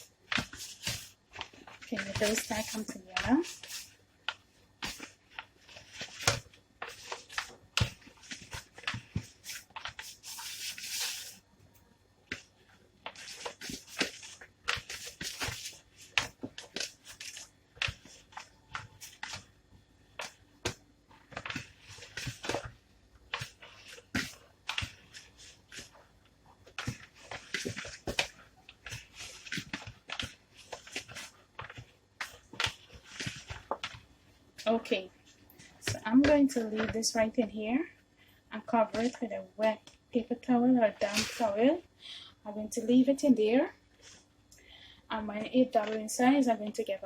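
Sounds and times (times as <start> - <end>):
hands kneading soft dough: 0.0 - 44.6.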